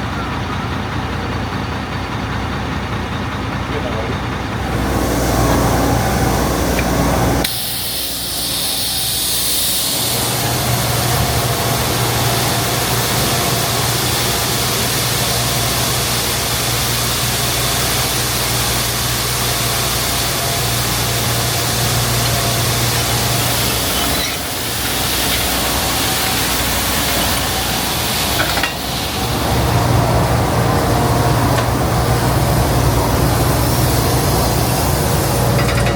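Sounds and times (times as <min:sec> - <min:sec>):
heavy vehicle engine running: 0:00.0 - 0:35.9
hiss of wind or road noise: 0:04.6 - 0:35.9.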